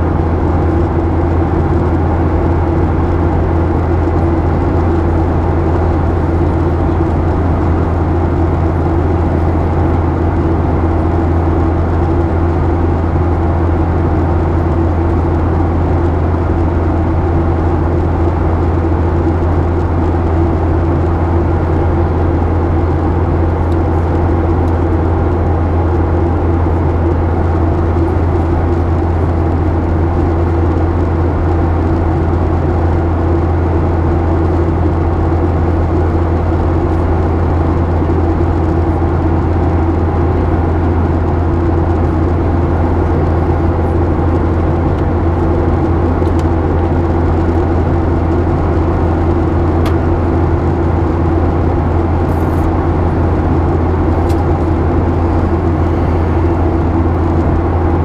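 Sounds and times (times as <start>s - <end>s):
jet engine drone: 0.0s - 58.0s
low hum: 0.0s - 58.0s.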